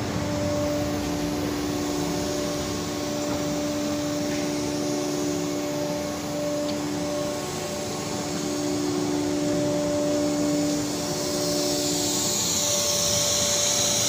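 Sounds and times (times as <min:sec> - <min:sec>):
vacuum pump whirring hum: 0:00.0 - 0:14.0.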